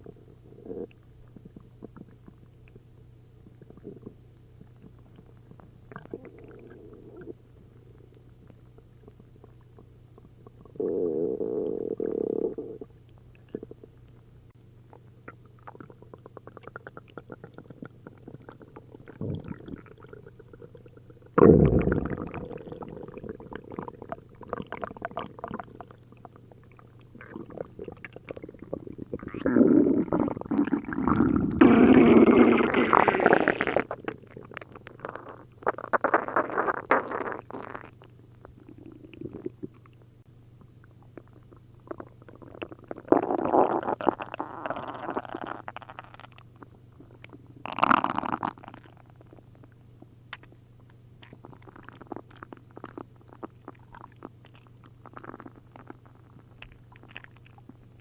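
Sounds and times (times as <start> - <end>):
liquid bubbling through gut: 0.0 - 2.8, 3.4 - 7.4, 9.0 - 14.0, 14.9 - 40.0, 41.0 - 49.5, 51.2 - 58.0
stomach gurgling and rumbling: 0.0 - 58.0.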